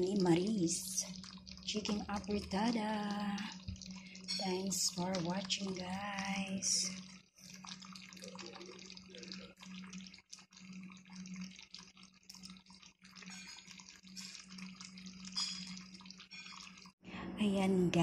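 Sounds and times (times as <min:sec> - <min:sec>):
sauce bubbling in a pot: 0:00.0 - 0:17.0.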